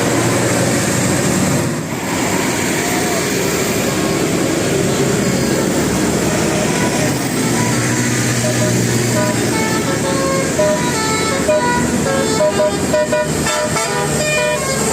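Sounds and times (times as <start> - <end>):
bus engine running: 0.0 - 14.9
road and traffic noise: 0.0 - 14.9.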